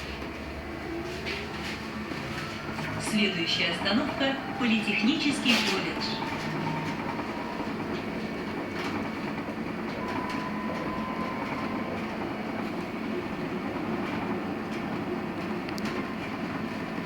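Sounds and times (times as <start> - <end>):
rumble of tyres and road: 0.0 - 17.0.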